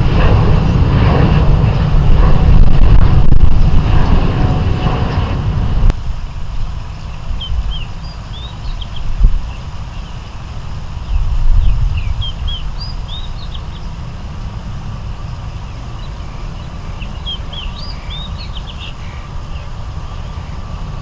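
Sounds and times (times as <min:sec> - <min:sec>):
small birds chirping: 0:00.0 - 0:05.9, 0:06.5 - 0:21.0
steady low rumble: 0:00.0 - 0:21.0.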